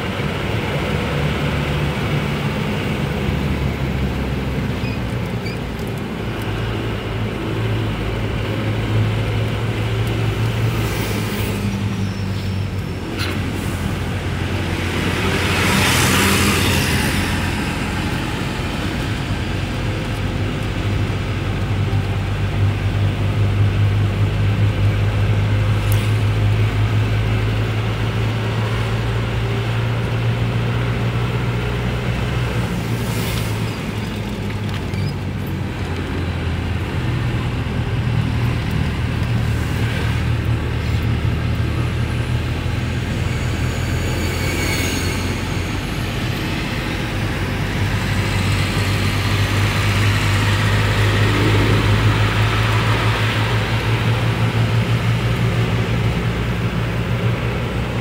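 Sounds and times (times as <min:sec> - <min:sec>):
car engine and road drone: 0:00.0 - 0:58.0
passing truck rush: 0:06.1 - 0:58.0.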